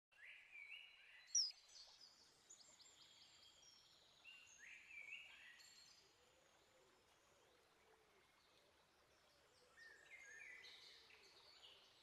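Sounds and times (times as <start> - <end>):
small birds singing: 0.1 - 12.0.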